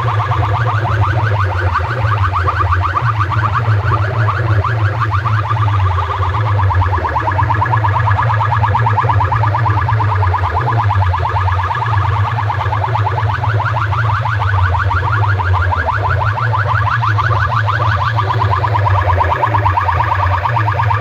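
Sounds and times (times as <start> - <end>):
rapidly repeating rising tone: 0.0 - 21.0.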